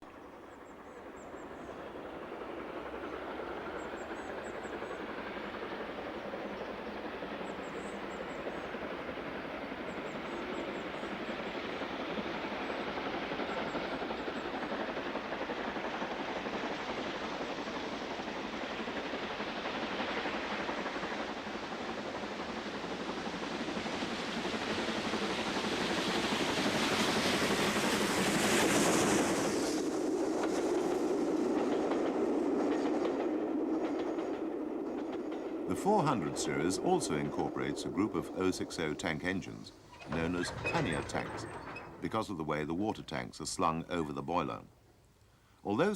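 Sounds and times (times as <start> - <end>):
steam train rumble and hiss: 1.0 - 44.6.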